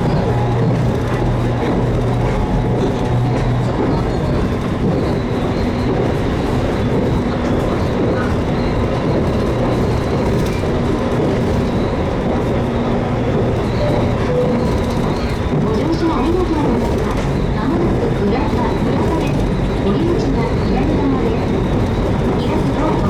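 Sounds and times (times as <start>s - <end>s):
train wheels rolling on rail: 0.0s - 23.0s.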